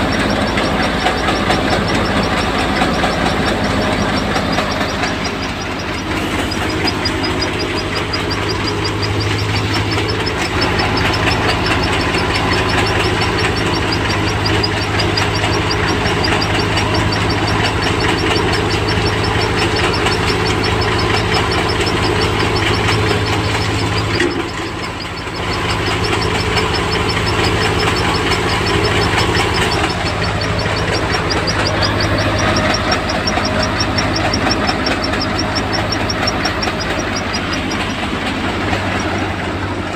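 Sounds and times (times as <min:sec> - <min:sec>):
fast even machine rattle: 0:00.0 - 0:39.9
harvesting machine engine drone: 0:00.0 - 0:39.9.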